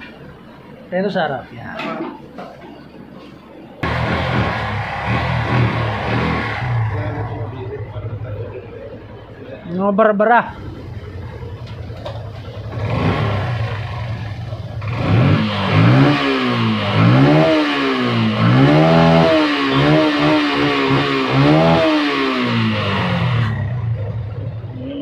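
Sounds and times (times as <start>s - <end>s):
motorcycle engine revving: 3.8s - 9.4s, 10.5s - 25.0s.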